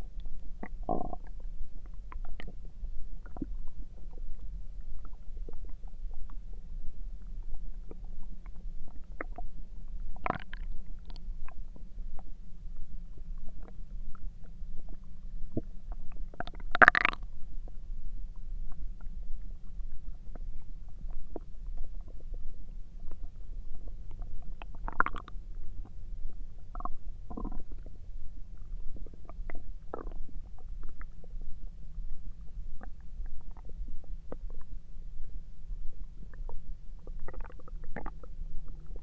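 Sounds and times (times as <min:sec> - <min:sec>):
stomach rumbling and gurgling: 0:00.0 - 0:39.0.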